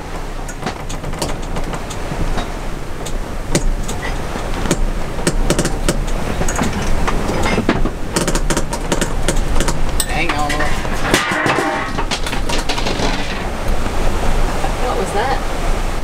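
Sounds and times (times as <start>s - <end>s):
water rushing along hull: 0.0s - 16.0s
wind buffeting microphone: 0.0s - 16.0s
sharp knocks: 0.4s - 13.6s.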